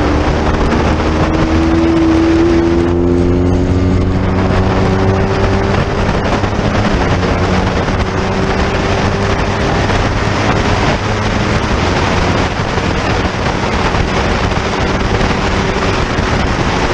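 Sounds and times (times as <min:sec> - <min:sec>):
motorcycle engine running: 0:00.0 - 0:16.9
wind rushing over microphone: 0:00.0 - 0:16.9.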